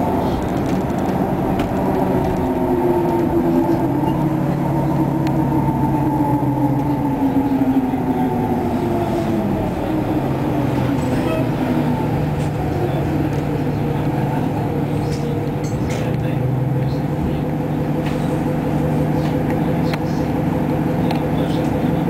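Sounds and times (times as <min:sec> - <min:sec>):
bus engine hum: 0:00.0 - 0:22.0.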